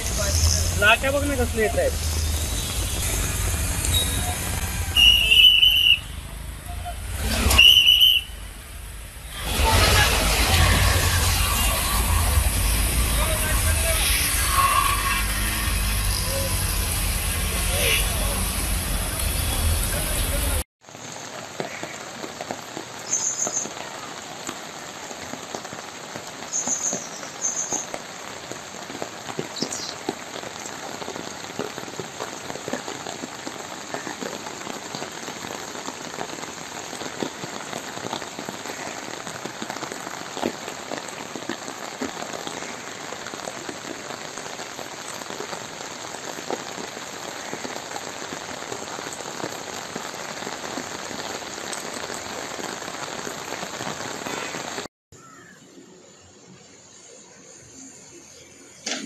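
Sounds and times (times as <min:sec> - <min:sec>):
heavy rain falling: 0:00.0 - 0:55.6.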